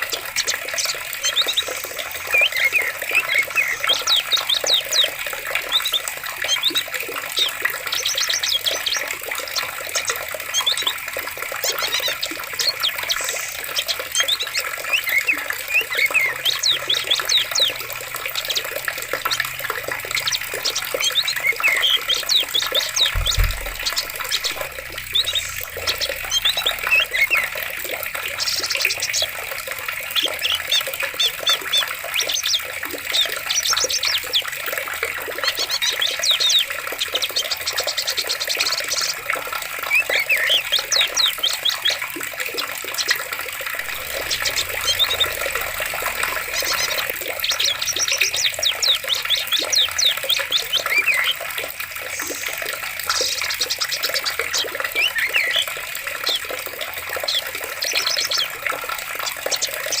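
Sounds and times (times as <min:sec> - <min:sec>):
birds chirping and trilling: 0:00.0 - 1:00.0
running water: 0:00.0 - 1:00.0.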